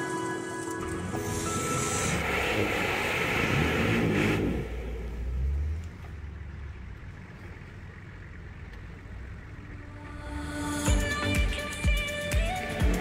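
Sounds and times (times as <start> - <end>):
engine pulling under load: 0.0 - 11.7.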